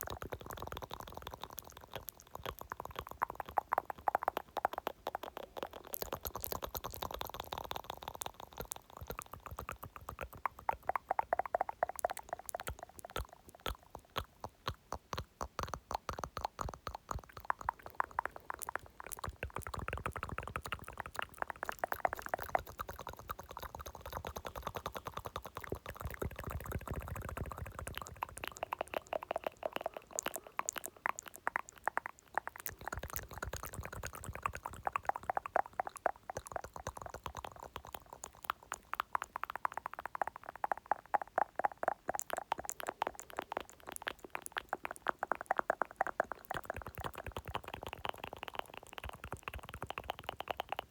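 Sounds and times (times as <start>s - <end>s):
wet mouth clicking and smacking: 0.0s - 50.9s.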